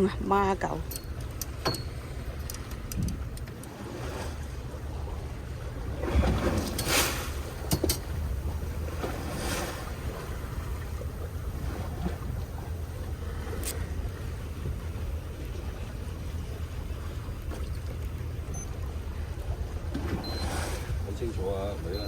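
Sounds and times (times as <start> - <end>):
rushes of wind or water: 0.0 - 22.0
wind and sea rumble: 0.0 - 22.0.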